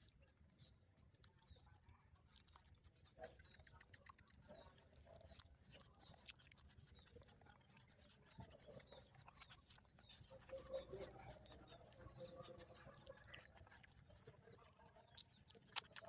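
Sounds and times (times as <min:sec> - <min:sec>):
puppies suckling: 0:00.0 - 0:16.0.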